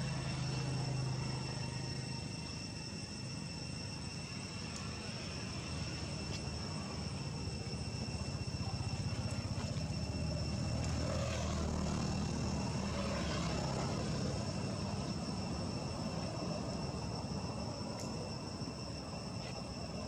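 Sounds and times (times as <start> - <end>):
distant engine drone: 0.0 - 20.0
high-pitched whine: 0.0 - 20.0.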